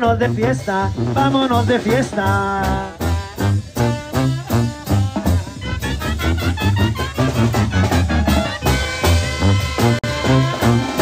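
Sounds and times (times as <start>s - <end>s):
brass band playing cumbia: 0.0s - 11.0s.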